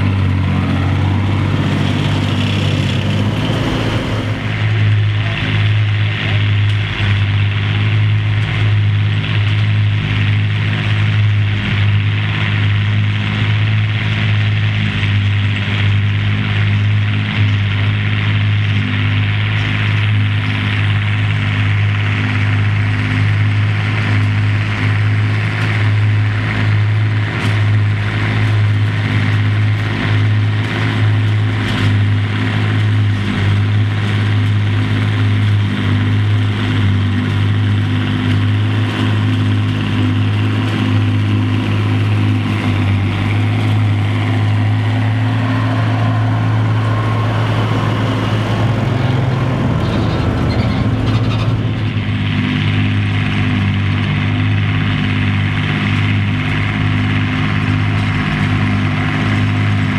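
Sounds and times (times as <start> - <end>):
forage harvester whirring: 0.0 - 59.9
tractor diesel engine at high revs: 0.0 - 59.9.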